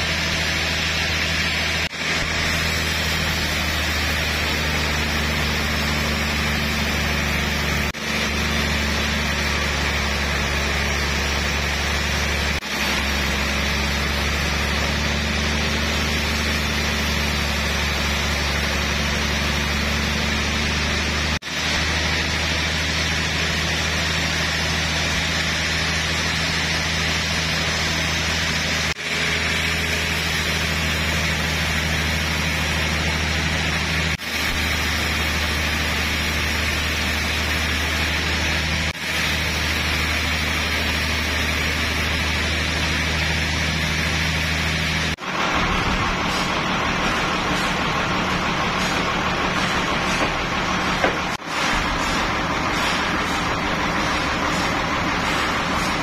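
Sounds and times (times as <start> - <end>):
band saw cutting log: 0.0 - 56.0.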